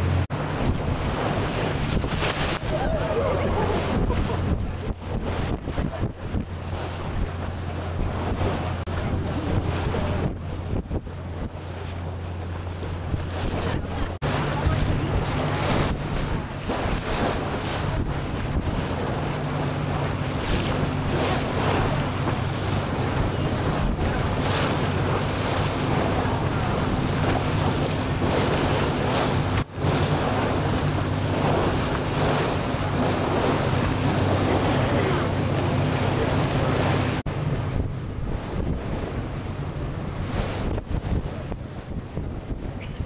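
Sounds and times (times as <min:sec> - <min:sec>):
water rushing past: 0:00.0 - 0:42.8
boat engine humming: 0:00.0 - 0:43.0
wind buffeting microphone: 0:00.0 - 0:43.0.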